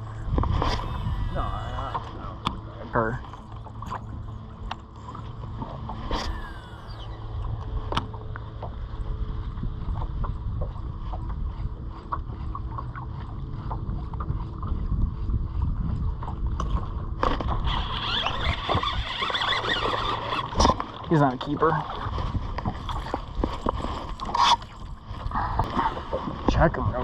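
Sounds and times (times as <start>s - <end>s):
faint steady hum: 0.0s - 27.0s
wind and water rumble: 0.0s - 27.0s.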